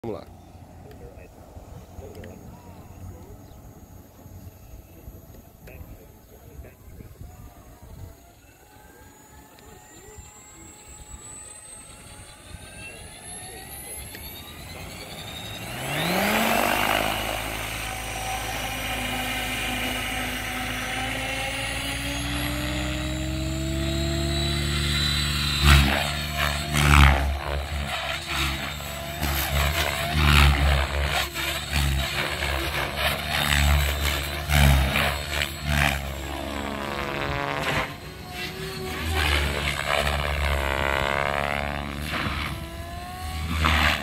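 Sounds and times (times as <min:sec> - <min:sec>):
helicopter rotor hum: 0:00.0 - 0:44.0
loud bursts of rotor noise: 0:00.0 - 0:44.0
electric motor whine: 0:00.2 - 0:44.0.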